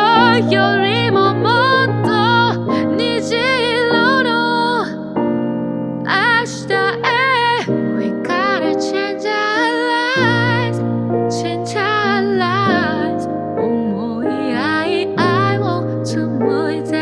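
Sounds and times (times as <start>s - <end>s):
person singing with vibrato: 0.0s - 5.1s, 6.1s - 17.0s
piano: 0.0s - 17.0s
sustained keyboard chords: 0.0s - 17.0s.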